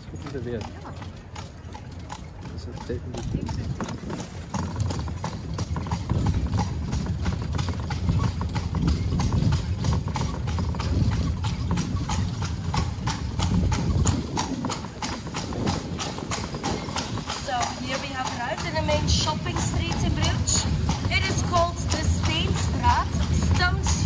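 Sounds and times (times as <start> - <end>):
carriage rolling over stones: 0.0 - 24.0
hooves clip-clopping on cobblestones: 0.0 - 24.0.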